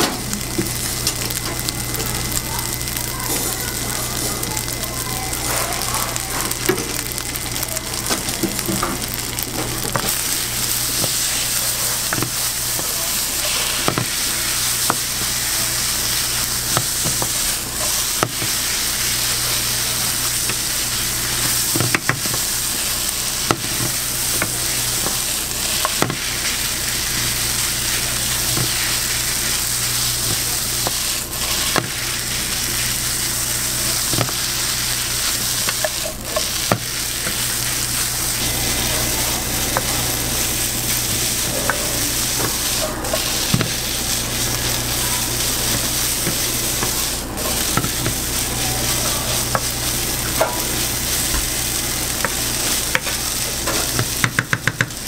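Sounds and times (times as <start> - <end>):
rice sizzling in frying pan: 0.0 - 55.0.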